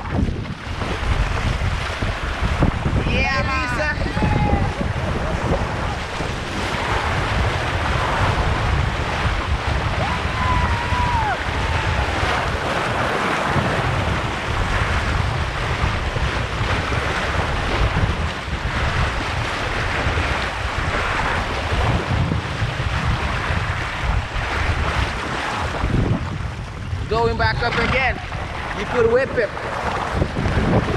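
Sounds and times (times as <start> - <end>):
sea water splashing: 0.0 - 30.9
wind rumble on microphone: 0.0 - 30.9.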